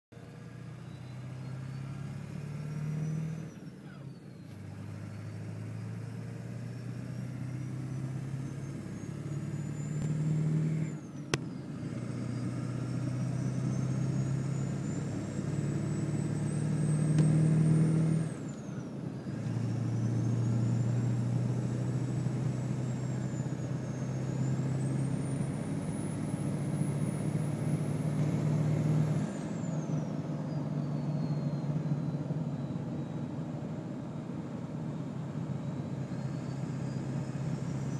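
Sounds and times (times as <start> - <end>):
diesel engine pulling hard: 0.2 - 37.9.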